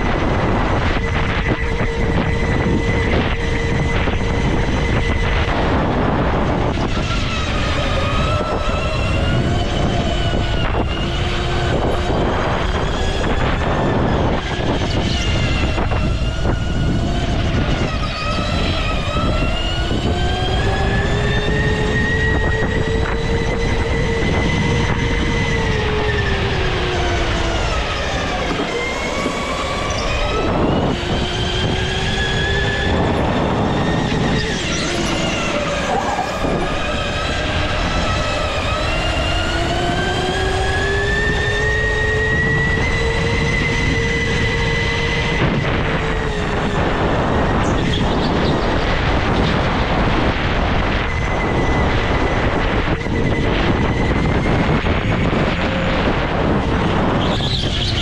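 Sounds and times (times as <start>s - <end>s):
go-kart motor whining: 0.0s - 58.0s
low rumble of road noise: 0.0s - 58.0s.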